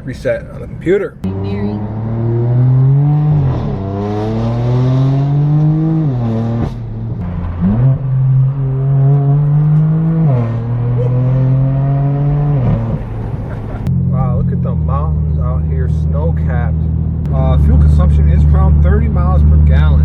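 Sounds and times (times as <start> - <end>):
car engine accelerating hard: 1.2 - 20.0.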